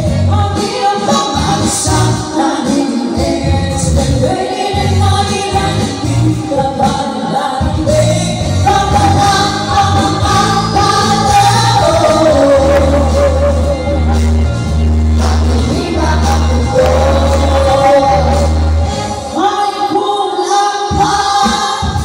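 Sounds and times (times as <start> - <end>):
amplified backing music: 0.0 - 22.0
women singing with vibrato: 0.0 - 22.0.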